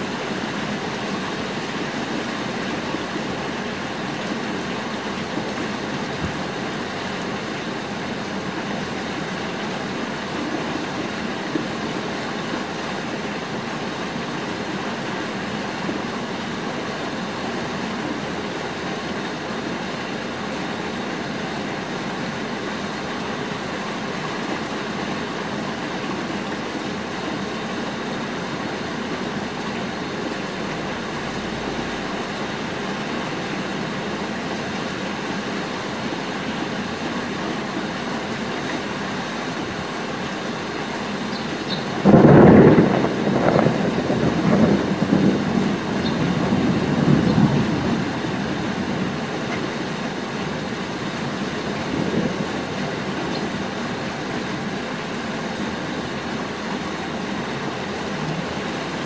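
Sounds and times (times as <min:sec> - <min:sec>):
rain falling on roofs: 0:00.0 - 0:59.0.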